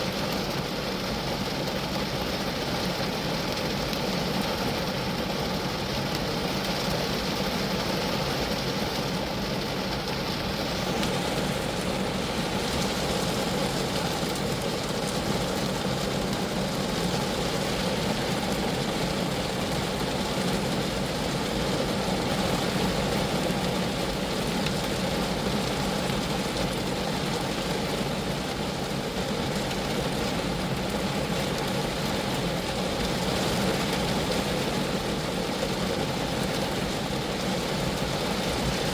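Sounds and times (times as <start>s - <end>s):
rain falling on a car: 0.0s - 38.9s.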